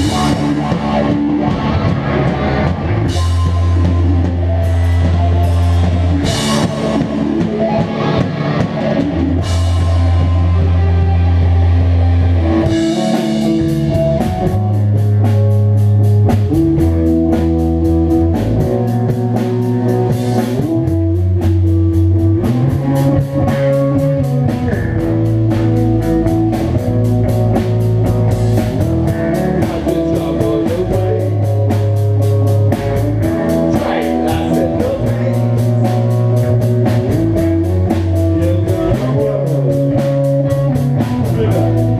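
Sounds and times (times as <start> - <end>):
electric bass low notes: 0.0 - 41.9
fast driving drum beat: 0.0 - 41.9
rock band playing: 0.0 - 41.9.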